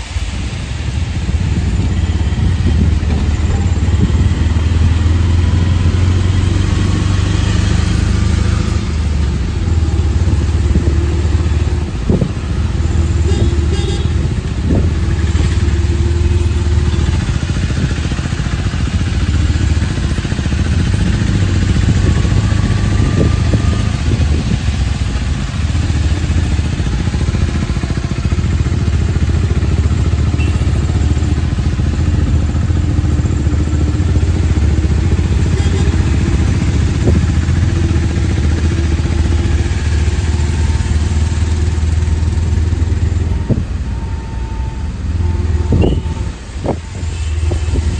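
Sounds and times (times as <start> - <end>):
tyres hissing on wet road: 0.0 - 47.9
small engine droning: 1.1 - 47.9.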